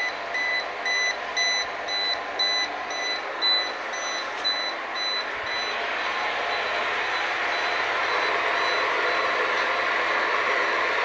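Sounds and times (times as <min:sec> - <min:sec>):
alarm buzzer beeping: 0:00.0 - 0:09.7
steady background noise: 0:00.0 - 0:11.0.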